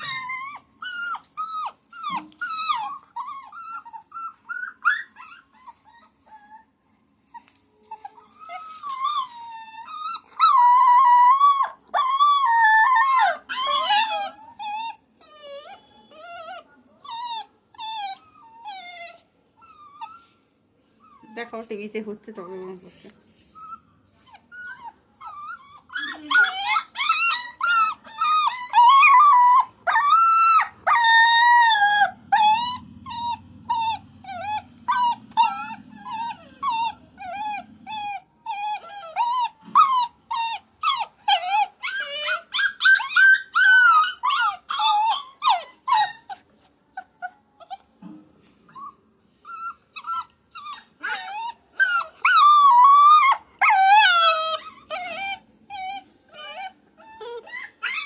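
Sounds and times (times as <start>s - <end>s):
puppy whining and yowling: 0.0s - 21.5s, 23.5s - 58.0s
faint low hum: 0.0s - 58.0s.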